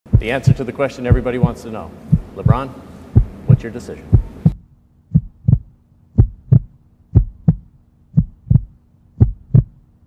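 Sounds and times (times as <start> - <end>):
heartbeat thumps: 0.1 - 9.9
faint steady hum: 0.1 - 10.0.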